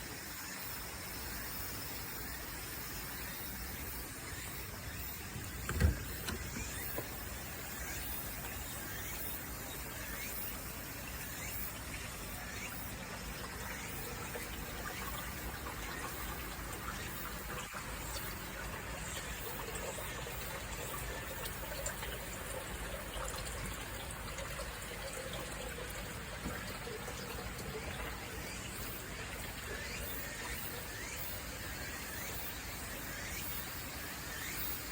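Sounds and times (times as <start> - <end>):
running water rushing: 2.0 - 33.3.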